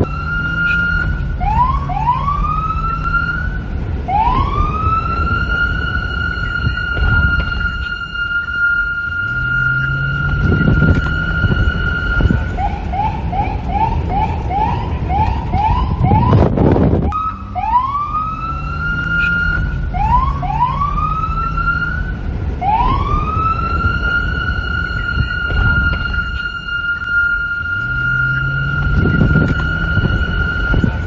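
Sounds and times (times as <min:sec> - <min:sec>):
low rumble: 0:00.0 - 0:31.0
police siren wailing and yelping: 0:00.0 - 0:31.0
wind rumble: 0:00.0 - 0:31.0.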